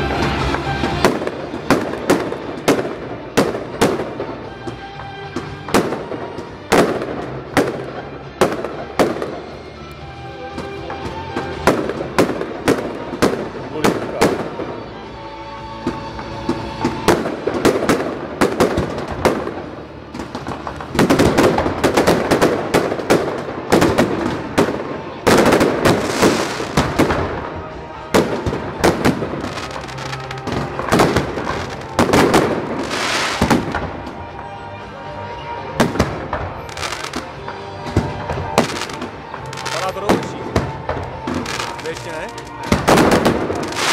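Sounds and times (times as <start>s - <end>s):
fireworks bangs and crackle: 0.0s - 9.7s, 10.4s - 14.9s, 15.8s - 35.0s, 35.7s - 43.9s.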